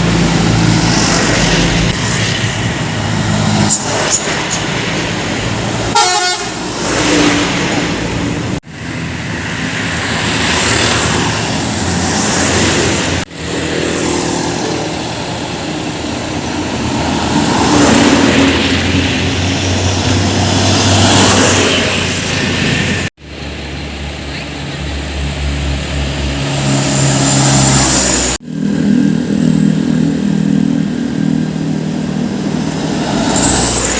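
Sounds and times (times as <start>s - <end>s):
trucks passing on road: 0.0s - 33.9s.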